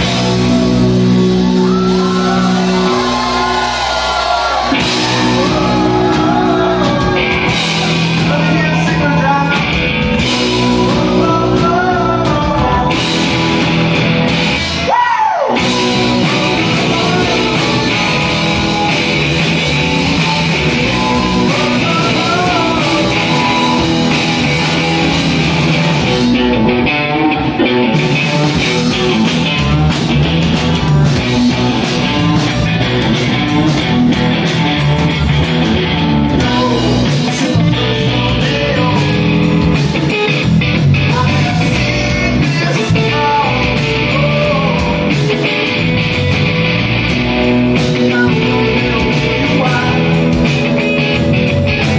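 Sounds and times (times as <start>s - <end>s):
drum kit with cymbals: 0.0s - 26.5s, 27.9s - 51.9s
electric guitars: 0.0s - 51.9s.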